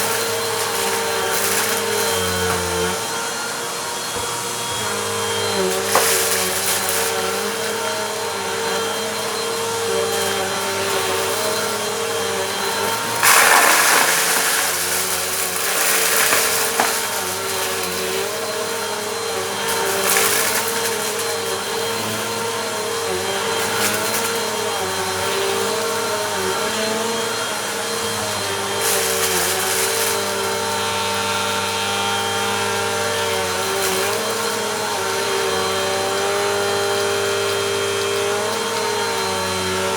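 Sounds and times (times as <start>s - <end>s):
vacuum cleaner motor hum: 0.0s - 39.9s
vacuum crunching up dirt: 0.0s - 39.9s.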